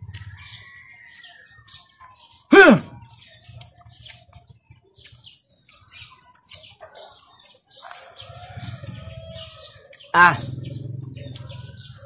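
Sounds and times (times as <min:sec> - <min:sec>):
faint small birds chirping: 0:00.0 - 0:12.0.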